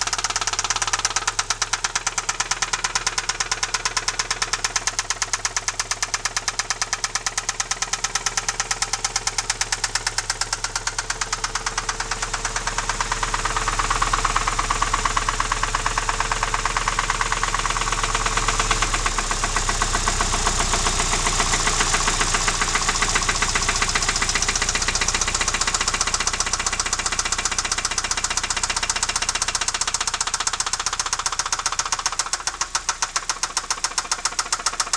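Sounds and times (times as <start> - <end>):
rapid metallic engine knock: 0.0 - 34.9.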